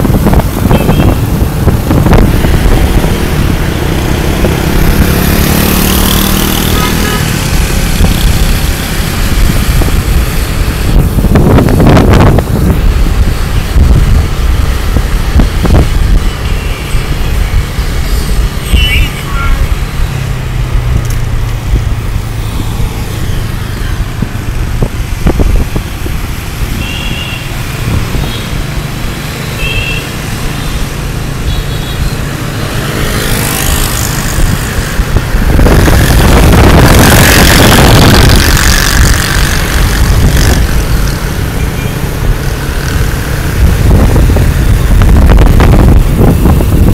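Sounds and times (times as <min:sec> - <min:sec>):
motorbike engine: 0:00.0 - 0:18.4, 0:19.8 - 0:46.9
wind buffeting microphone: 0:00.0 - 0:18.7, 0:19.6 - 0:29.3, 0:32.1 - 0:46.9
road noise: 0:00.0 - 0:46.9.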